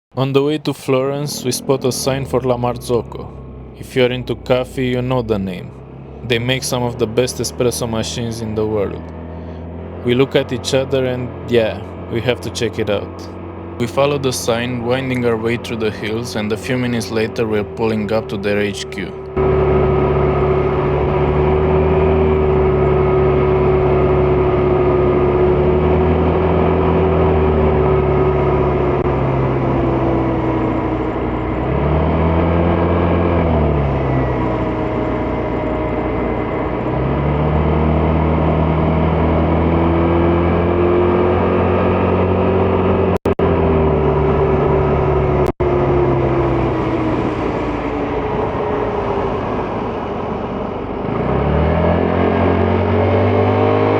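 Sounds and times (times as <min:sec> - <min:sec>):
wind and road noise: 0:00.1 - 0:53.9
scooter engine revving: 0:01.3 - 0:53.9.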